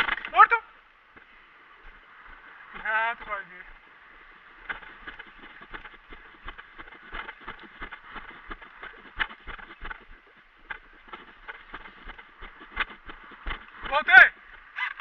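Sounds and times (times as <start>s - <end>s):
footsteps crunching undergrowth: 0.0s - 14.9s.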